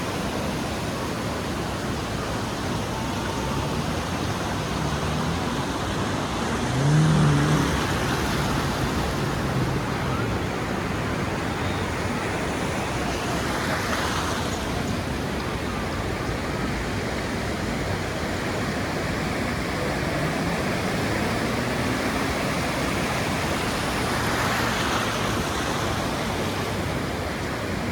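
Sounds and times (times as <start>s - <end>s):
ocean surf washing onto beach: 0.0s - 27.9s.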